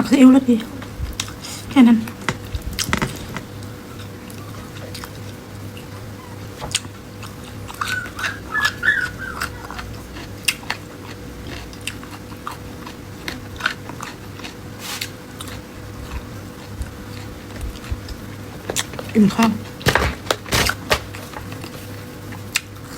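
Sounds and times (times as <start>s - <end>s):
chewing and biting: 1.1s - 22.9s.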